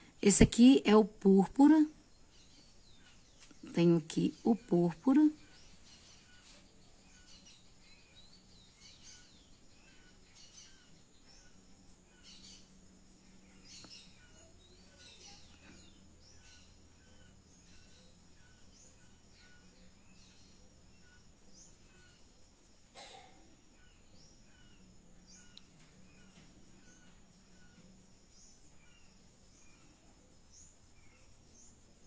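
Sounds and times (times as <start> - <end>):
birds chirping: 0.0 - 32.0
rustle: 5.4 - 32.0.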